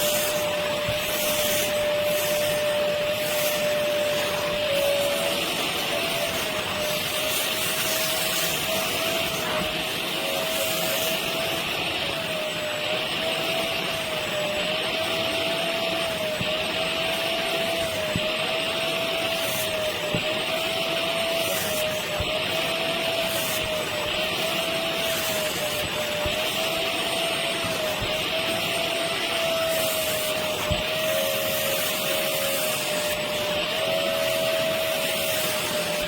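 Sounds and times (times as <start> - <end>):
wet vacuum motor whining: 0.0 - 36.0.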